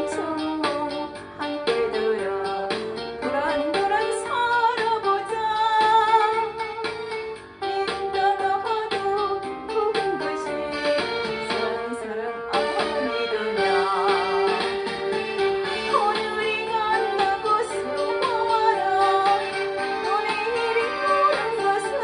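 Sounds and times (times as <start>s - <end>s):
backing track music: 0.0s - 22.0s
woman singing: 0.0s - 22.0s.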